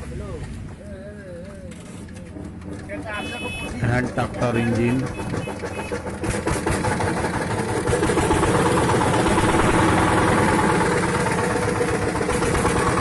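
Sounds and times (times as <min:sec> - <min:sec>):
tractor engine chugging: 0:01.7 - 0:13.0.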